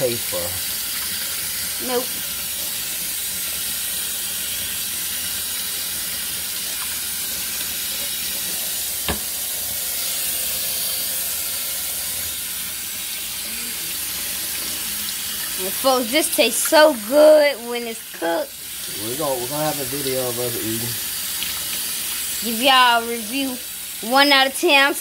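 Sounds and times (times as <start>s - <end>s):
faucet water splashing in sink: 0.0s - 25.0s.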